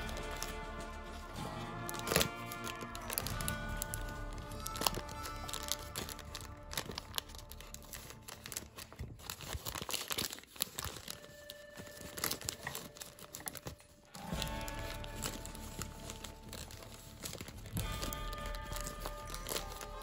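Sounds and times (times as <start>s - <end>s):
paper crinkling and rustling: 0.0s - 20.0s.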